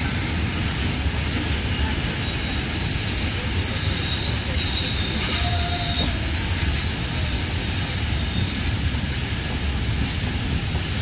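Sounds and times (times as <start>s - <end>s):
train rumble and track noise: 0.0s - 11.0s.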